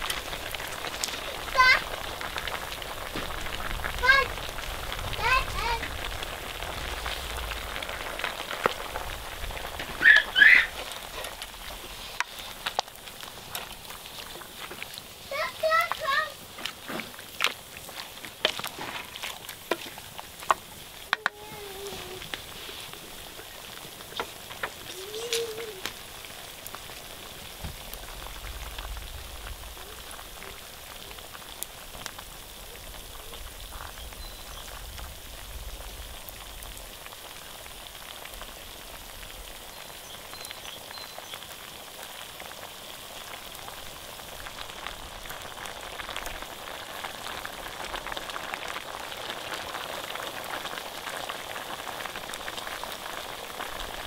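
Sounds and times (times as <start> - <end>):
food frying with crackling sizzle: 0.0 - 54.0.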